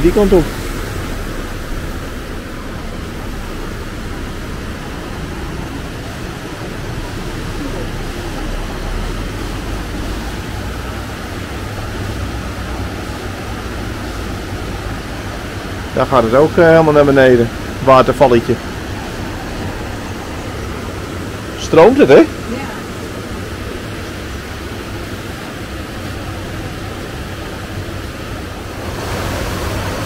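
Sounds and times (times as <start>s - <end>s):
water rushing over weir: 0.0s - 30.0s.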